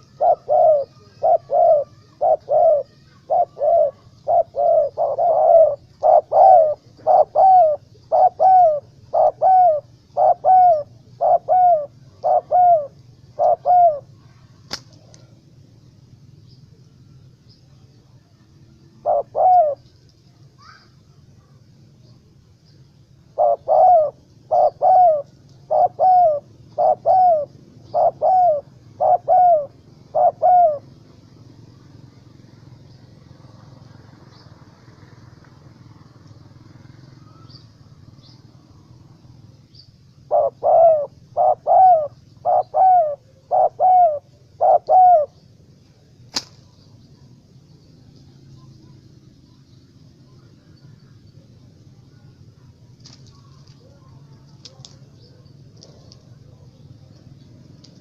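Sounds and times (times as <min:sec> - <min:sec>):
dove cooing: 0:00.0 - 0:20.0, 0:22.9 - 0:46.2, 0:46.9 - 0:58.0.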